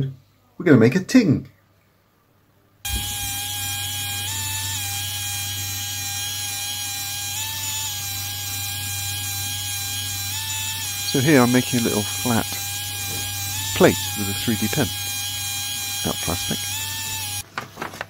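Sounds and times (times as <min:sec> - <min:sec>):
pen motor whirring: 0:02.9 - 0:17.5.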